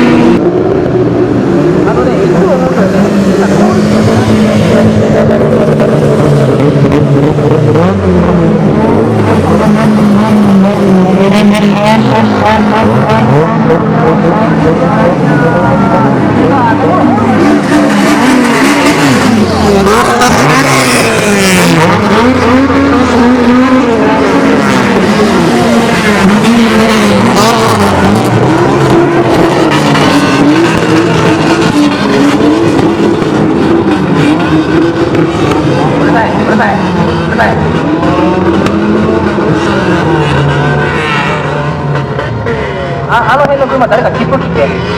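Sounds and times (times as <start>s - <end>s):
car engines revving: 0.0s - 44.9s.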